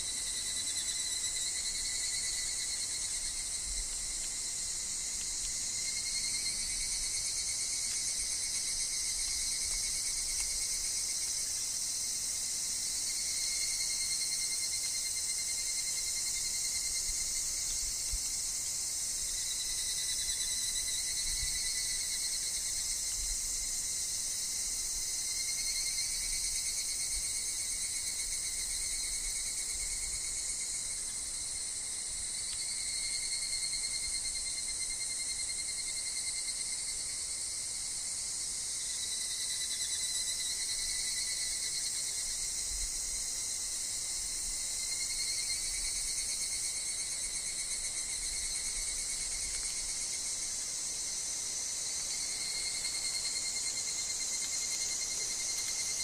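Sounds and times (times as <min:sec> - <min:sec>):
cicadas and insects shrilling: 0:00.0 - 0:56.0.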